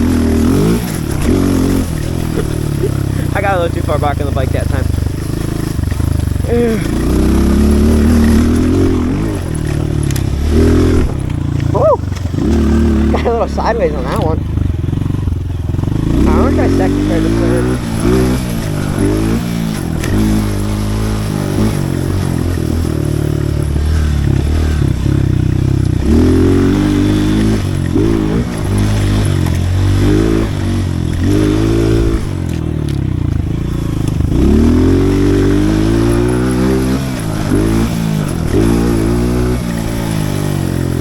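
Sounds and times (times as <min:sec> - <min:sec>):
small motorbike engine revving: 0:00.0 - 0:41.0.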